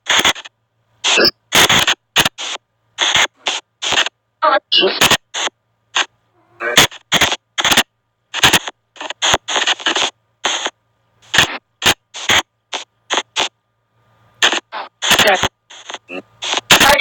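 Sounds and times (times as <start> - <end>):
chopped static bursts from phone speaker: 0.0 - 13.6, 14.3 - 17.0.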